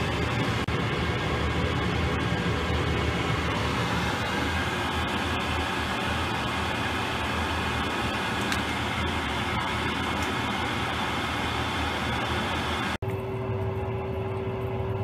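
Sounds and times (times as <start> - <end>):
gas boiler fan and burner hum: 0.0 - 15.0.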